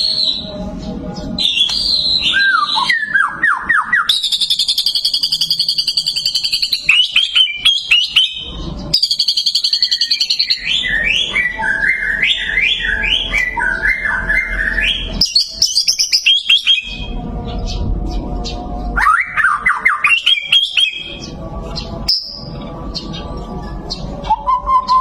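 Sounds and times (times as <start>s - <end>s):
songbird singing varied song: 0.0s - 25.0s.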